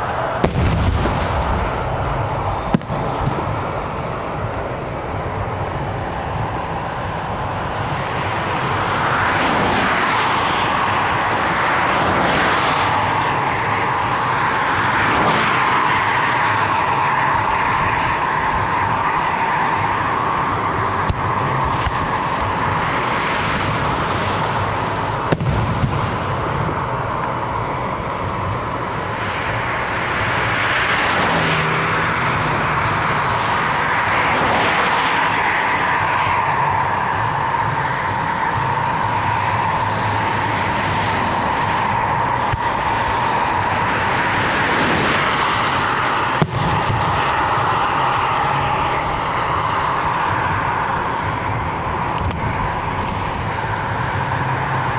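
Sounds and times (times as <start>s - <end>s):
road traffic noise: 0.0s - 54.9s
vehicles passing: 0.0s - 54.9s.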